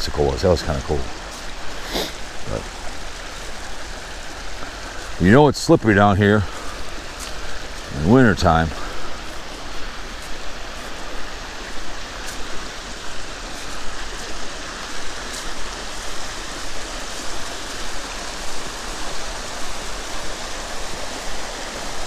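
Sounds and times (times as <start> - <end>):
creek water rushing over rocks: 0.0 - 22.0.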